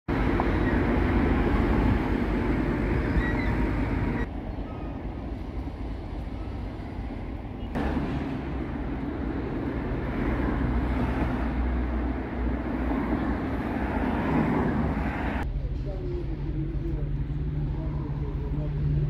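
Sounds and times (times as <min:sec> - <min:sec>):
heavy diesel machinery rumbling: 0:00.1 - 0:19.0.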